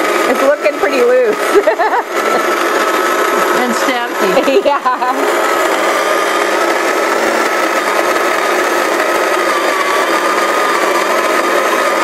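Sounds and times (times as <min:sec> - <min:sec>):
coffee grinder motor whine: 0:00.0 - 0:12.0
hiss of grinding beans: 0:00.0 - 0:12.0.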